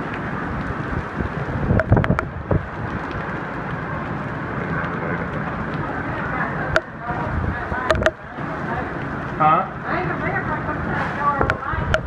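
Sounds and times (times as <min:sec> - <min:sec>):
wind buffeting microphone: 0:00.0 - 0:09.3, 0:10.6 - 0:12.0
heavy rain downpour: 0:00.0 - 0:12.0.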